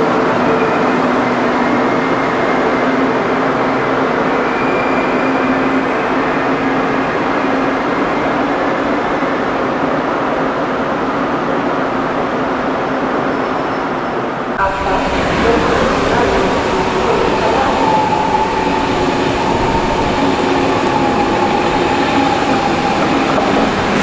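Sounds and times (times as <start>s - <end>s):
high-speed train running: 0.0s - 24.0s.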